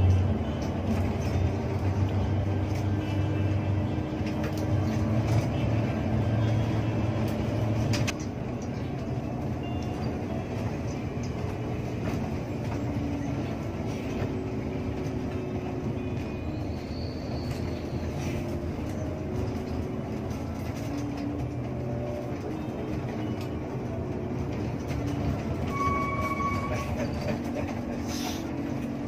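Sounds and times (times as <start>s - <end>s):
bus diesel engine drone: 0.0s - 29.0s
tyre and road noise: 0.0s - 29.0s.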